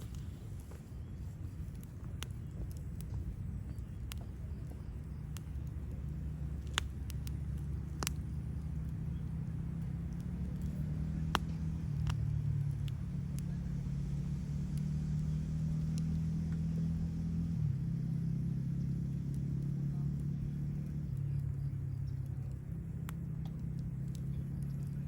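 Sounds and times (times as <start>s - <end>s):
burning wood popping: 0.0s - 25.0s
campfire crackling: 0.0s - 25.0s
low hum: 0.0s - 25.0s.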